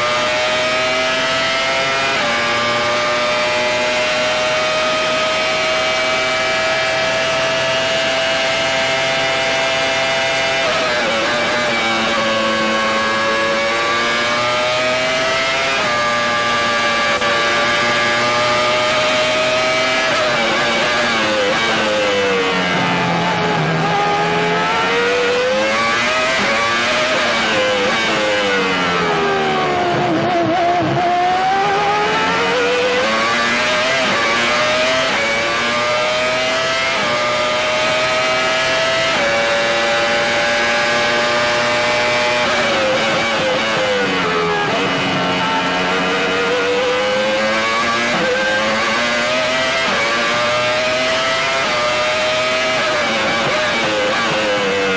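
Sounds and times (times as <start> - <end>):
racing car engine at high revs: 0.0 - 54.9.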